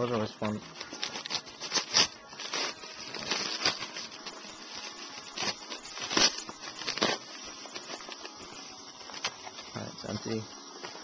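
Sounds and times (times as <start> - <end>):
bubble wrap crinkling: 0.0 - 11.0
bubble wrap sharp cracks: 0.4 - 9.8.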